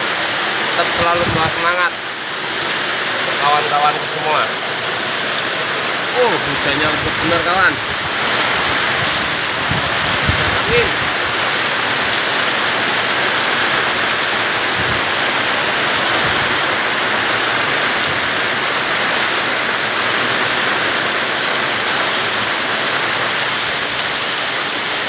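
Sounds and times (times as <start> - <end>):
heavy rain on corrugated roof: 0.0 - 25.0.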